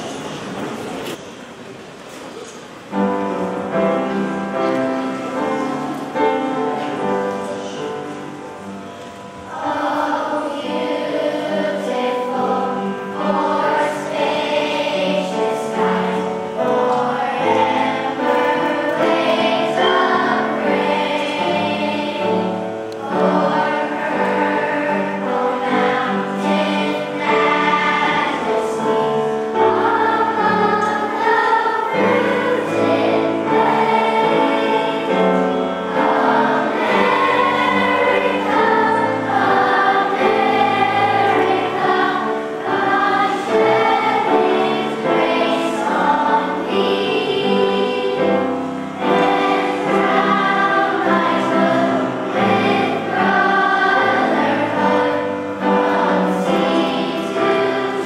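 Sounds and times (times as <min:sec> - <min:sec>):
children's choir singing: 0:02.9 - 0:58.0.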